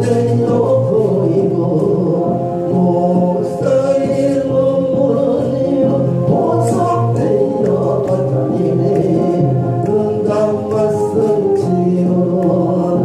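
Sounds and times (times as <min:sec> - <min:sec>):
musical accompaniment: 0:00.0 - 0:13.0
person singing praise song: 0:00.0 - 0:13.0.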